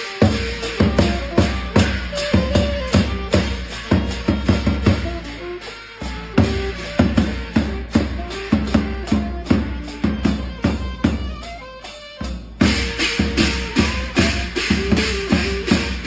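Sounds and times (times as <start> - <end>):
hand drum beaten with stick: 0.0 - 11.6, 12.2 - 16.0
hand cymbals clashing: 0.0 - 16.0
saxophone melody: 0.0 - 16.0.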